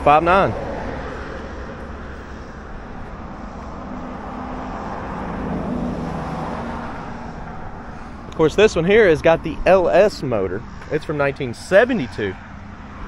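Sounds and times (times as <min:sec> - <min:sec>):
low engine hum: 0:00.0 - 0:13.0
rushing road noise: 0:00.0 - 0:13.0.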